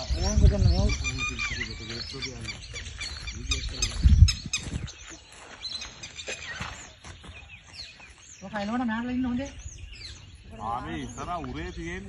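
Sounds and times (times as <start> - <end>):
many birds chirping: 0.0 - 12.0.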